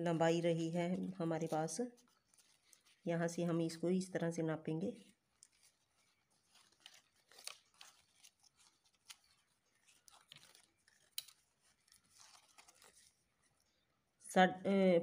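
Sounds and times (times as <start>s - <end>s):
fabric rustling: 0.0s - 3.8s, 4.8s - 13.8s.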